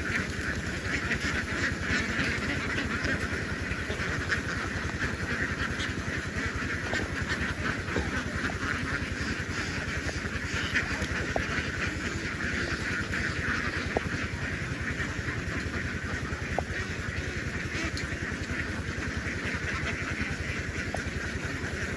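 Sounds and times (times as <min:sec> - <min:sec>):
engine running: 0:00.0 - 0:21.9
flock of ducks quacking: 0:00.0 - 0:21.9.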